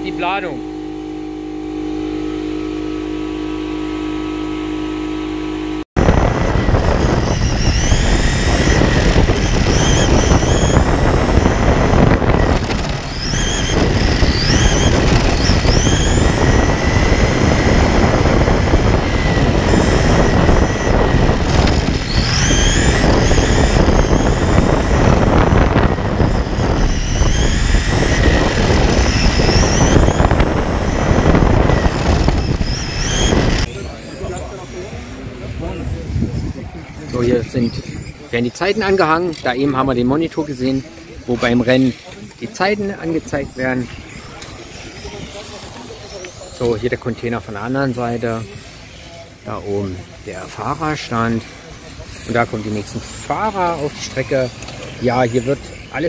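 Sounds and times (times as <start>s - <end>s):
electric toy car motors whining: 0.0s - 56.0s
steady noisy rush: 5.6s - 56.0s.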